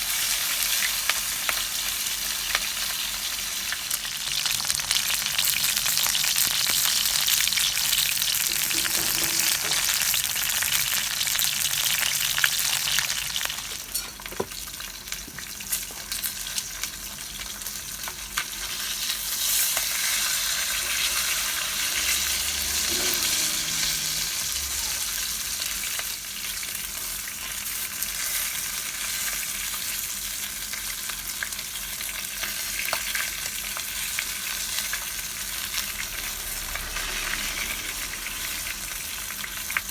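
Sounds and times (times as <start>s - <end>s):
chicken sizzling over fire: 0.0s - 39.9s.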